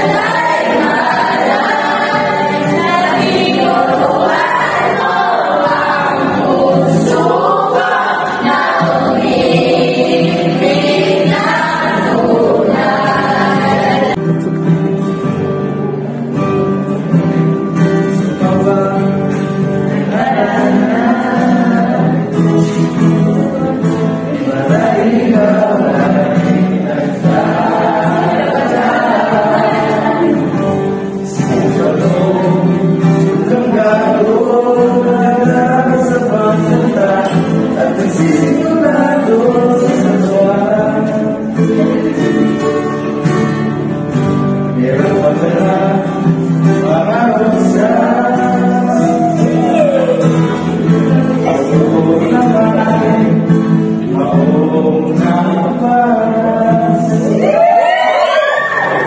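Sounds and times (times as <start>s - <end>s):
acoustic guitar: 0.0s - 59.0s
group singing together: 0.0s - 59.0s.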